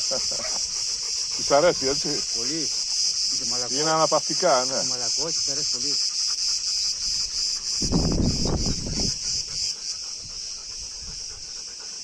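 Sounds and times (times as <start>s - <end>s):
insects pulsing buzz: 0.0s - 12.0s.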